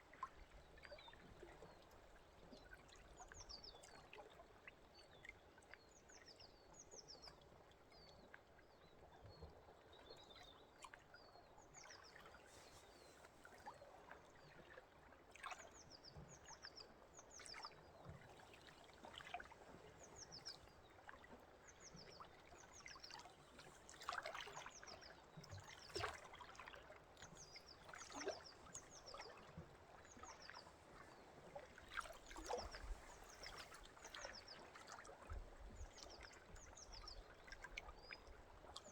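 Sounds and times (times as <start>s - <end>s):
faint trickling stream: 0.0s - 38.9s.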